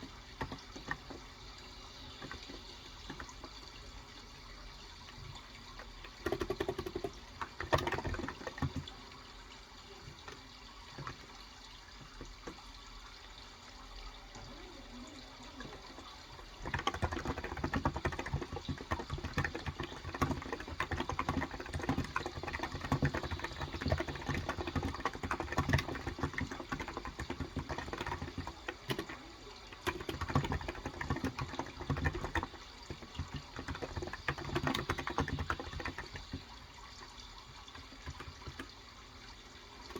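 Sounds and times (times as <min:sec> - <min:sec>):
keyboard typing: 0:00.0 - 0:03.8, 0:05.0 - 0:09.2, 0:09.9 - 0:11.4, 0:15.0 - 0:38.8
running water: 0:00.0 - 0:39.9.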